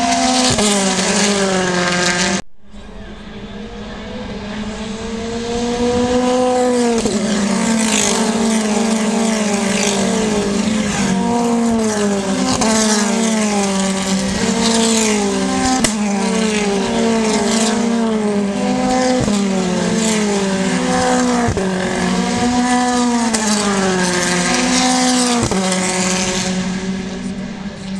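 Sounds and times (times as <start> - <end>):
race car engine revving: 0.0 - 2.4, 3.0 - 27.9.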